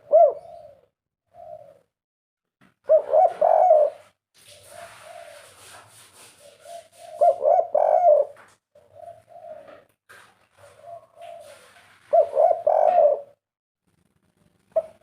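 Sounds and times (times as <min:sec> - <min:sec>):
dove cooing: 0:00.0 - 0:01.9, 0:02.8 - 0:13.4, 0:14.7 - 0:15.0.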